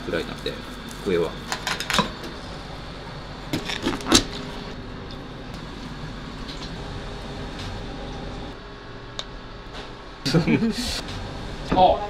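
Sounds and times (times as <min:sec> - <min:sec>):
kitchen background hum: 0:00.0 - 0:12.0.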